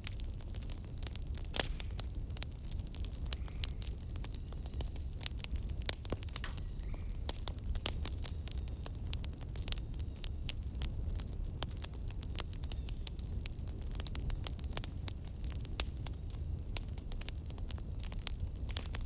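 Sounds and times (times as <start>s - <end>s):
fire crackling in a fireplace: 0.0s - 19.0s
low fire rumble: 0.0s - 19.0s.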